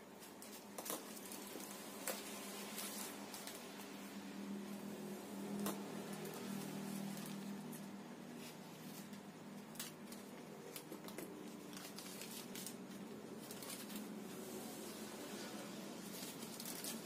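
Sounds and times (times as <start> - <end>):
plastic bag crinkling and rustling: 0.1 - 4.1, 5.3 - 17.0.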